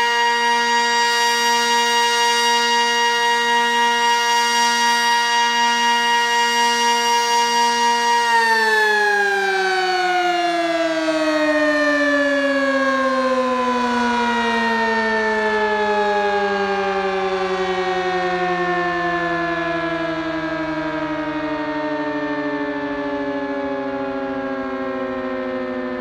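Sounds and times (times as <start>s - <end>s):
two-tone siren winding down: 0.0s - 26.0s.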